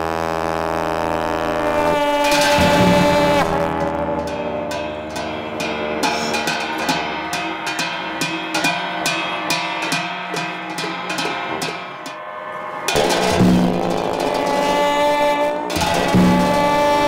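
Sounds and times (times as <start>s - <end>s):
held wind instrument tones: 0.0s - 17.0s
cymbals and drum beating: 1.1s - 17.0s.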